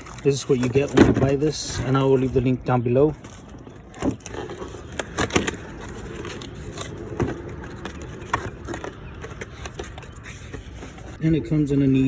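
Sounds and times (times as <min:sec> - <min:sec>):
packaging and plastic case handling: 0:00.0 - 0:11.2.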